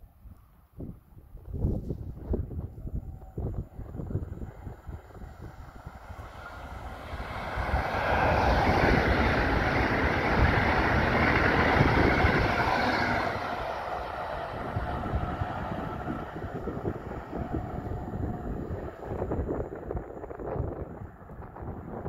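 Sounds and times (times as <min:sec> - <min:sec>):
electric train passing at speed: 0:00.4 - 0:22.0
wind buffeting microphone: 0:00.7 - 0:22.0.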